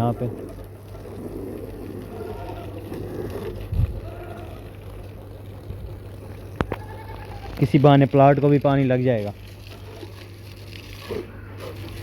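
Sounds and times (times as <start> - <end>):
water pouring and splashing: 0.0 - 12.0
water pump motor humming: 0.0 - 12.0.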